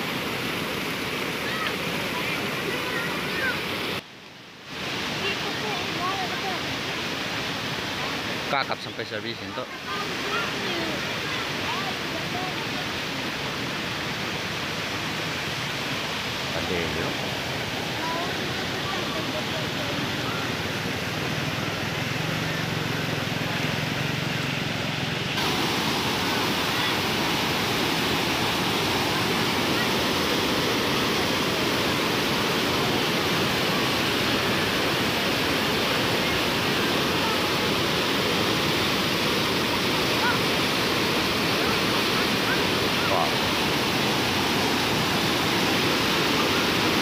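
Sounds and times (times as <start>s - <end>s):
water washing on flooded road: 0.0s - 4.0s, 4.7s - 47.0s
floodwater rushing: 0.0s - 47.0s.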